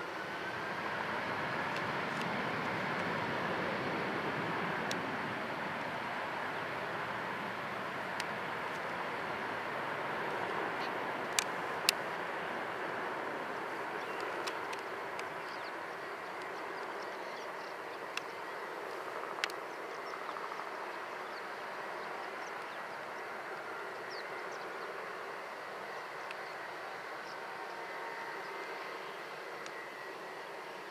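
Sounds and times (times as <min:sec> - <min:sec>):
jet engines on takeoff: 0:00.0 - 0:30.9.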